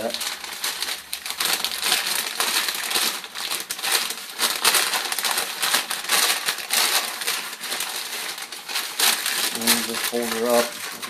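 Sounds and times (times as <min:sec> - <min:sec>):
paper bag crinkling: 0:00.0 - 0:11.0.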